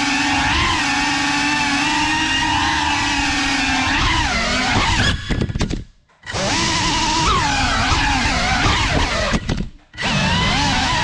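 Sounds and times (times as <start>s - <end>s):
quadcopter motors whining: 0.0s - 5.4s, 6.2s - 11.0s.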